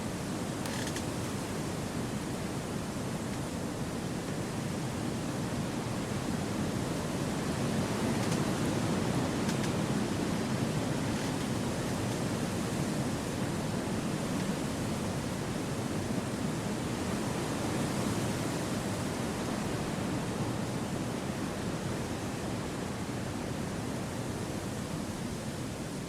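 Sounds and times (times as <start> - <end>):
wind through trees: 0.0 - 26.0.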